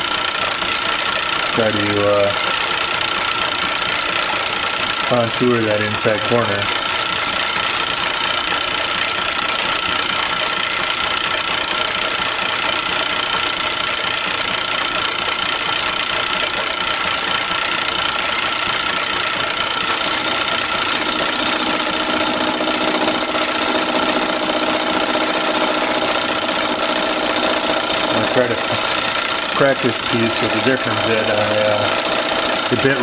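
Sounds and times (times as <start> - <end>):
metal lathe whining: 0.0 - 33.0.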